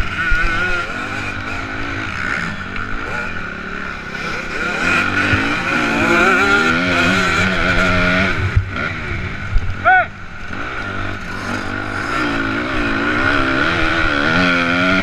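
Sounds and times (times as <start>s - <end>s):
motocross bike engine racing: 0.0s - 15.0s.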